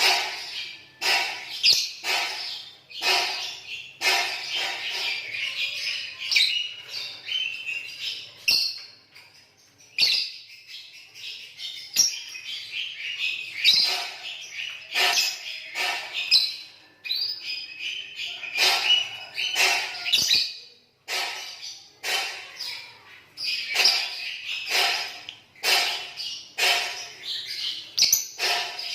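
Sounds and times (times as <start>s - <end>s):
lovebirds chirping: 0.0s - 28.9s.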